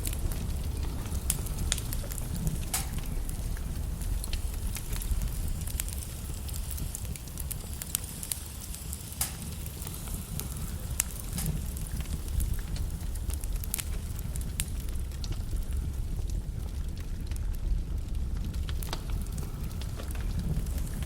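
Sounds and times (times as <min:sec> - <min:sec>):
burning wood crackling and popping: 0:00.0 - 0:21.0
fire flames rumbling: 0:00.0 - 0:21.0.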